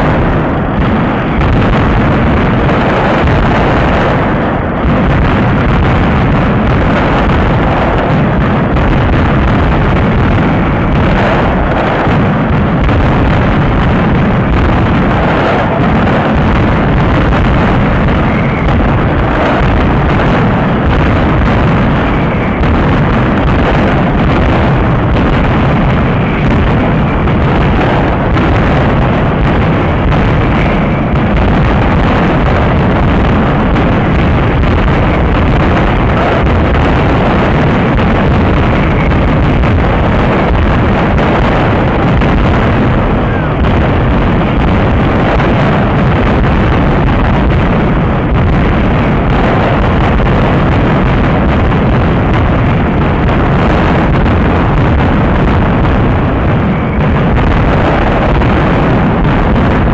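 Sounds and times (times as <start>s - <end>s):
firecrackers banging: 0.0s - 59.9s.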